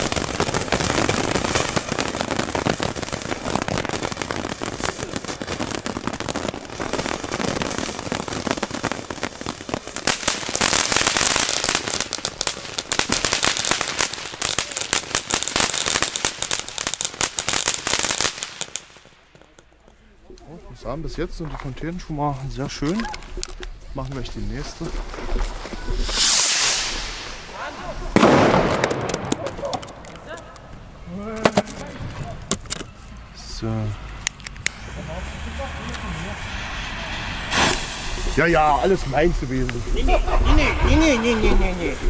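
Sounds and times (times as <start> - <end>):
firework fountain crackling: 0.0 - 42.0.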